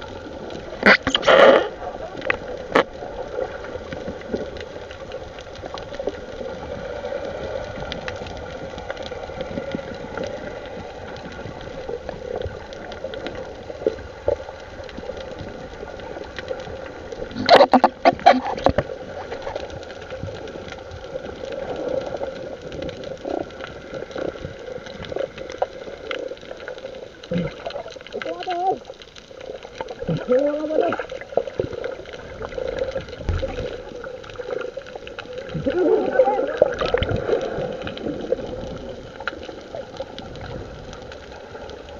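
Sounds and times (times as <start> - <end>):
water sounds: 0.0 - 41.9.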